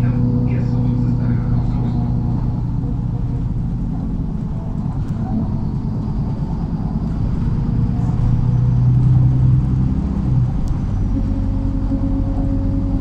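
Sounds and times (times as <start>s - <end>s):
bus engine from inside cabin: 0.0s - 13.0s.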